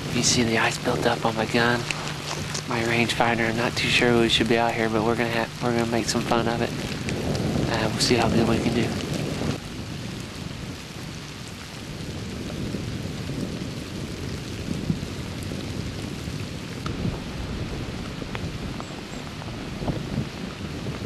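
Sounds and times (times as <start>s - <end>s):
freezing rain hissing on woods: 0.0s - 21.0s.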